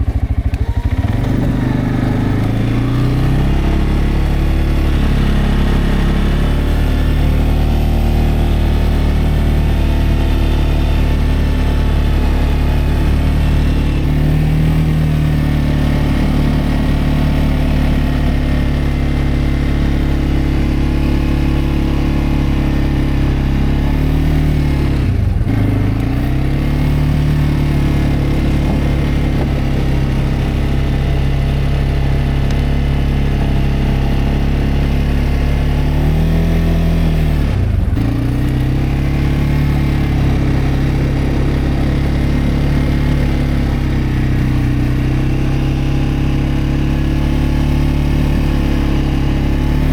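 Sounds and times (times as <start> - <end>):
atv engine running: 0.0 - 49.9.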